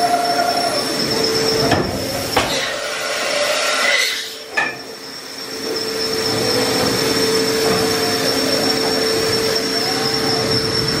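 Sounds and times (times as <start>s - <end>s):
machine whine and hum: 0.0s - 11.0s.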